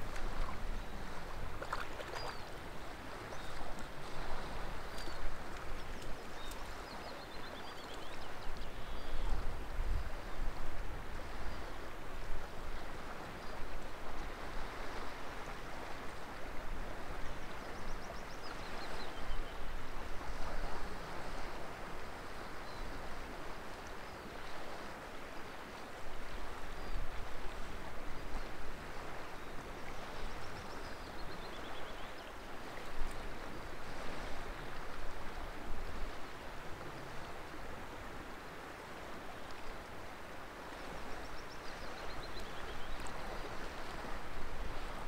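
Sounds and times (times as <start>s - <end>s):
rushing water: 0.0s - 45.0s.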